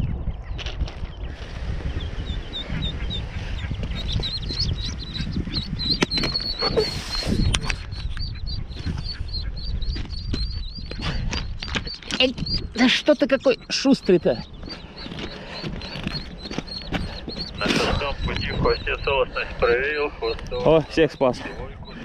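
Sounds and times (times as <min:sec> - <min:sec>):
ducklings peeping: 0:00.0 - 0:22.0.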